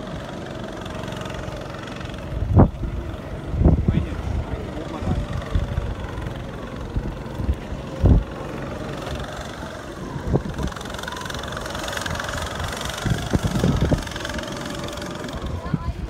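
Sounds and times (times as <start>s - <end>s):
distant go-kart engine: 0.0s - 16.0s.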